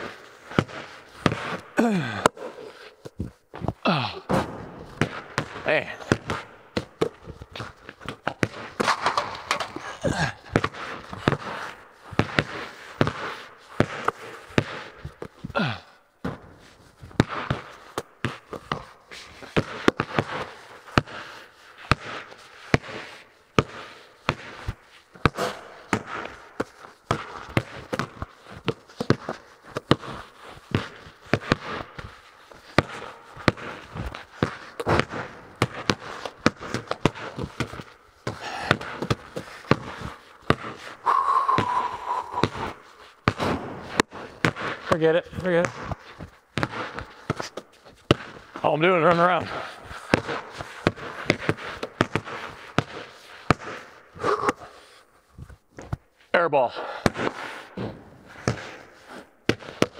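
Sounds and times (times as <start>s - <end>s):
basketballs bouncing on concrete: 0.0s - 54.7s, 56.7s - 59.9s
footsteps: 0.0s - 56.3s, 57.1s - 59.9s.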